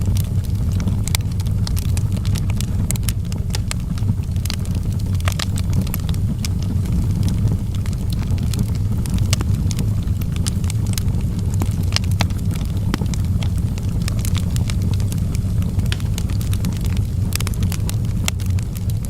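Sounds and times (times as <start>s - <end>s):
logs crackling and popping: 0.0s - 19.0s
wood fire rumbling: 0.0s - 19.0s.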